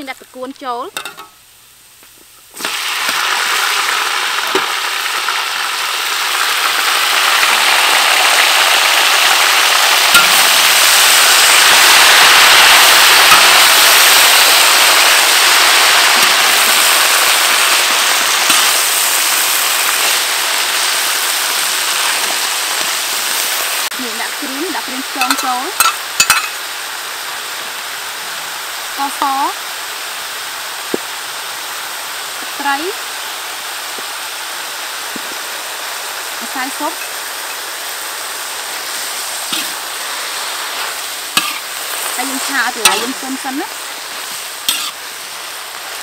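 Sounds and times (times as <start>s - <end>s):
food frying in hot oil: 0.0s - 46.0s.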